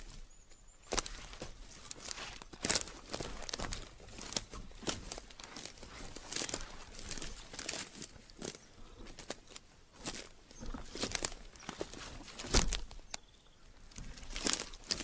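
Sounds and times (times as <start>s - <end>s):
footsteps crunching dry leaves: 0.0s - 13.2s, 13.8s - 15.0s
plants rustling: 0.0s - 15.0s.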